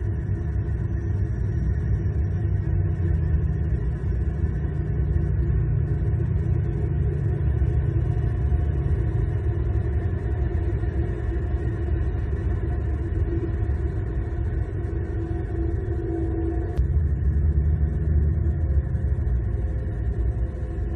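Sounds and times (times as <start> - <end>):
faint hum: 0.0 - 20.9
low engine-like rumble: 0.0 - 20.9.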